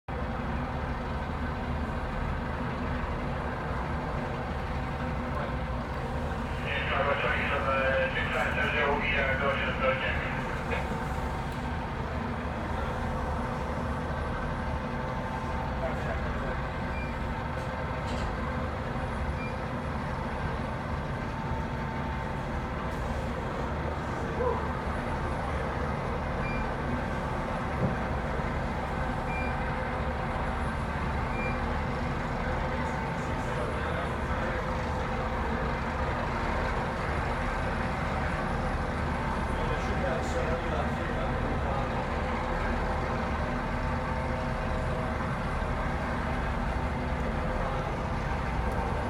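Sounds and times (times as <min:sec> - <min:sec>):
heavy engine droning: 0:00.1 - 0:49.0.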